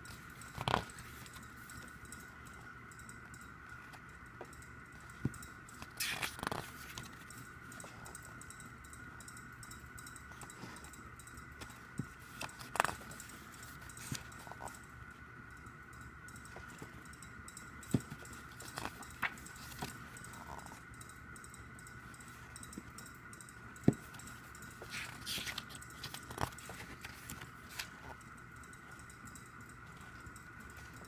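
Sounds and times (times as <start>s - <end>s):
faint high-pitched whine: 0.0s - 31.0s.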